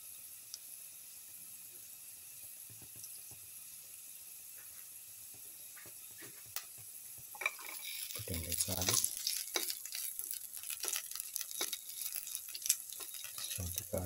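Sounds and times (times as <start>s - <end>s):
food sizzling in hot oil: 0.0s - 14.0s
oil crackling and popping: 0.0s - 14.0s.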